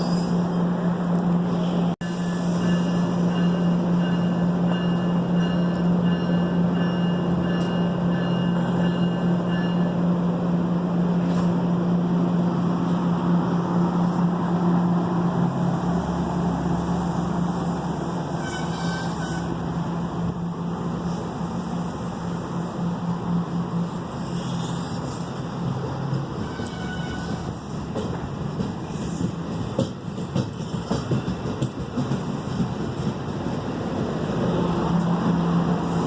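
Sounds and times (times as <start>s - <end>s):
train running through station: 0.0s - 36.0s.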